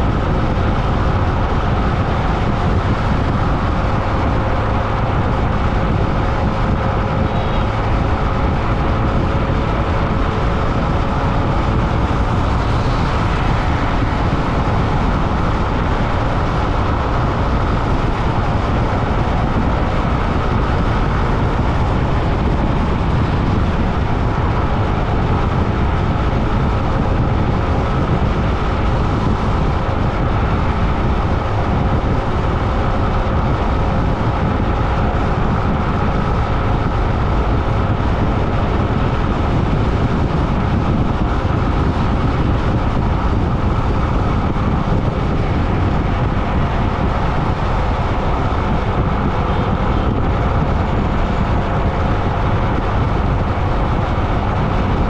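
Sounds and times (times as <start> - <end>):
road noise rumble and hiss: 0.0 - 55.0.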